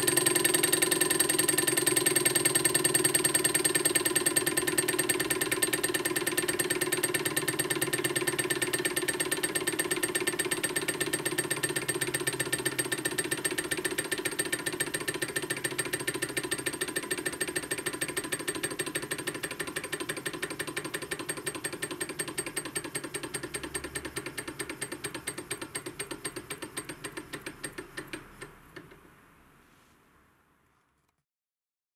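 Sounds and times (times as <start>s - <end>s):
small engine ticking clatter: 0.0s - 28.9s.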